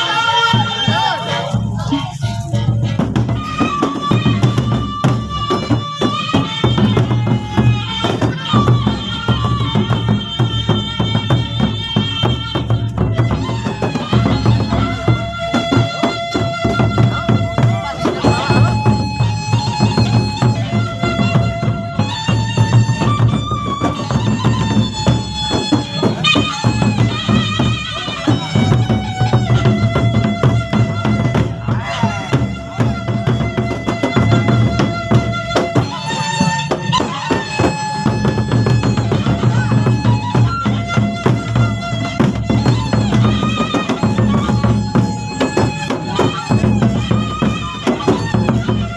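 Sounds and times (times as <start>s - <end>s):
cymbals: 0.0s - 48.9s
large drums beating fast rhythm: 0.0s - 48.9s
wind instrument holding notes: 0.0s - 48.9s.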